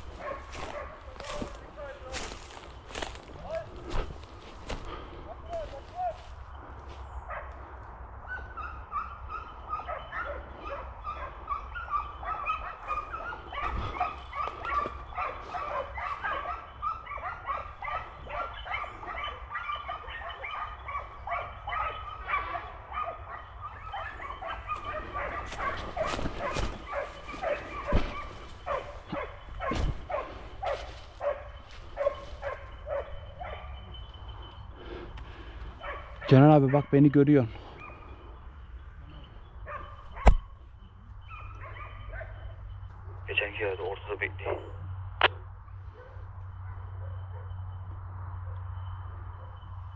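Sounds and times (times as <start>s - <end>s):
dogs barking and yelping: 0.0s - 43.4s, 44.4s - 49.9s.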